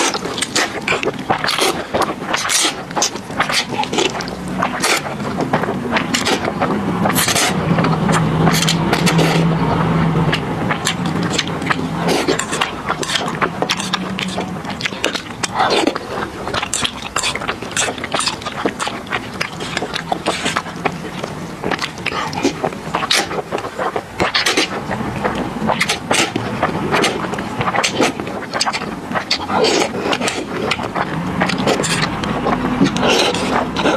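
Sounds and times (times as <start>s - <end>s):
low steady hum: 0.0s - 33.9s
noodles slurping: 0.0s - 33.9s
wet chewing and lip-smacking: 0.0s - 33.9s.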